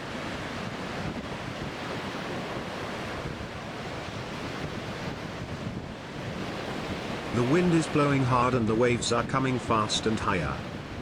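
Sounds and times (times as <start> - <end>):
surf breaking on a beach: 0.0 - 11.0
wind buffeting microphone: 0.0 - 11.0.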